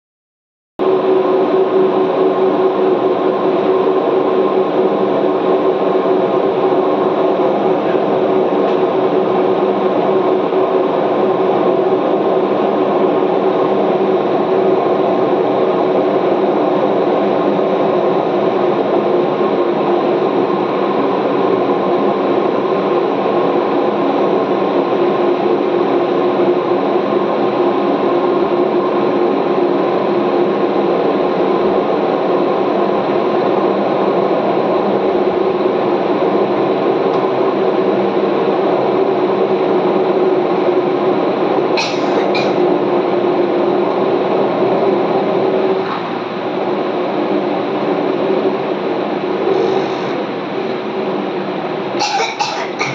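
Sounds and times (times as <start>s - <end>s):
rumbling roar of wind: 0.8s - 52.9s.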